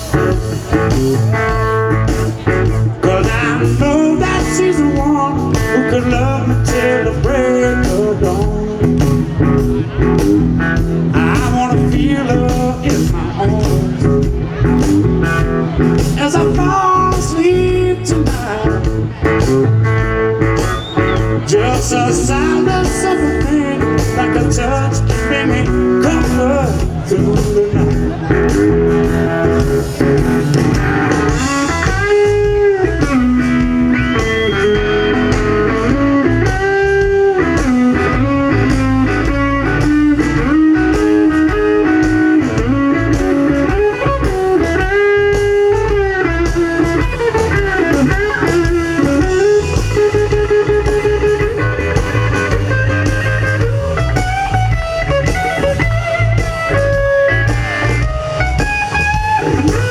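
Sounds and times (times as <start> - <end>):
bass: 0.0 - 59.9
electric blues guitar solo: 0.0 - 59.9
steady beat: 0.0 - 59.9.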